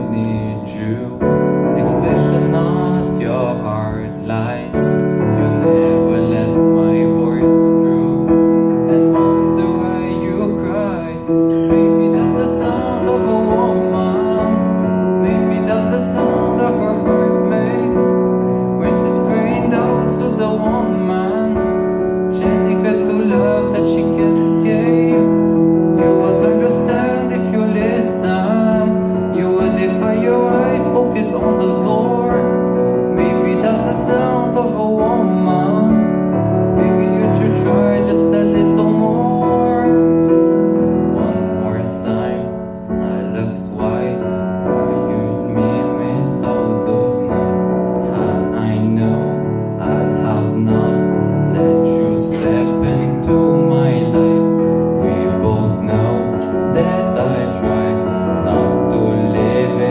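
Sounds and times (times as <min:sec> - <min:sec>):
person singing: 0:00.0 - 0:59.9
piano playing slow ballad chords: 0:00.0 - 0:59.9.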